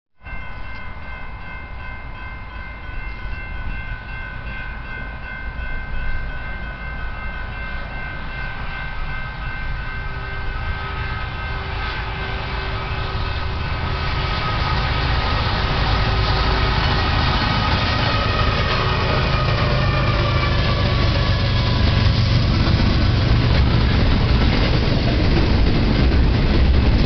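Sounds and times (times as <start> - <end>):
freight train rumble: 0.2 - 27.0.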